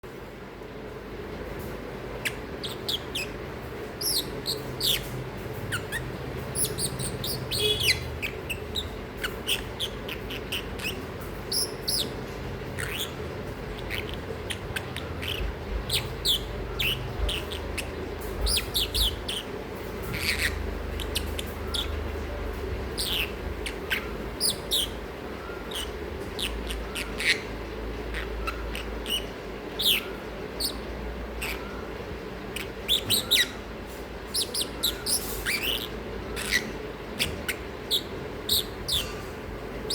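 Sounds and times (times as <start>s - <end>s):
steady low hum: 0.0s - 39.9s
lovebird chirping: 2.2s - 3.4s, 4.0s - 12.2s, 12.8s - 39.9s.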